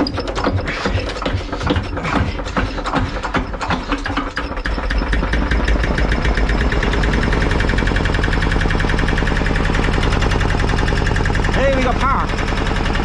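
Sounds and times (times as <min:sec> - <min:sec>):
diesel generator engine knocking: 0:00.0 - 0:13.0.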